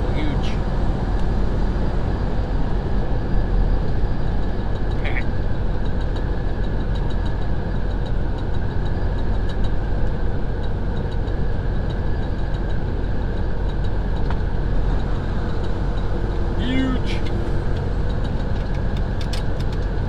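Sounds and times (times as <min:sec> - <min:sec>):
road noise drone: 0:00.0 - 0:20.0
truck diesel engine running: 0:00.0 - 0:20.0.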